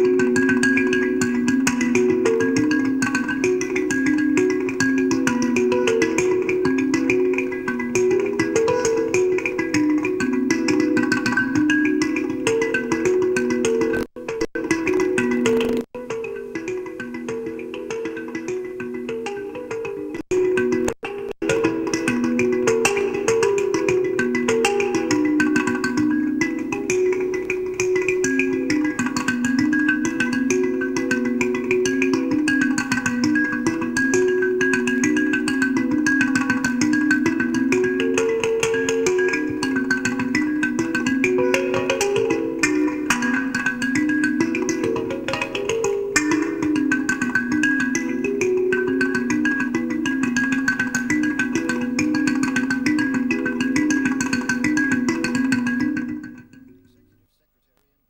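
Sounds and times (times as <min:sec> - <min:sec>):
marimba music: 0:00.0 - 0:57.1.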